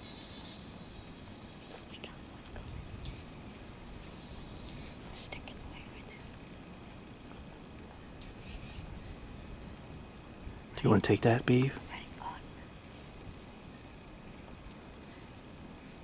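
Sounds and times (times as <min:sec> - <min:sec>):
small birds chirping: 0:00.0 - 0:03.4, 0:04.0 - 0:15.8.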